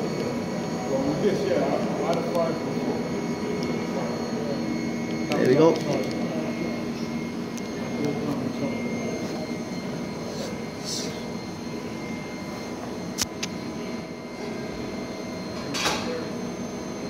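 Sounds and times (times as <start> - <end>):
mechanical room hum: 0.0 - 17.0.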